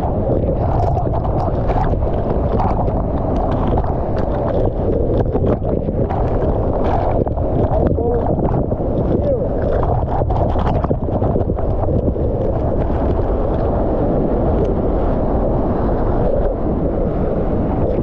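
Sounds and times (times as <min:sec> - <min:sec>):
small crackles: 0:00.0 - 0:14.9
wind buffeting microphone: 0:00.0 - 0:18.0.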